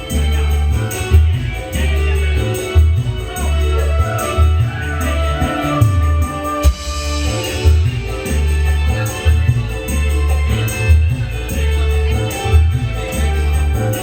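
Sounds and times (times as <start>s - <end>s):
band playing instrumental: 0.0s - 14.0s
pulsing bass beat: 0.0s - 14.0s
tambourine-like jingles: 0.0s - 14.0s.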